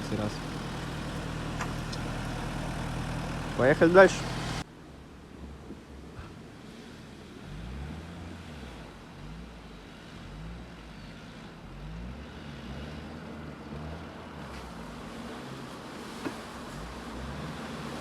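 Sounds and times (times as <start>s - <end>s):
off-road vehicle engine revving: 0.0s - 4.6s, 6.3s - 18.0s.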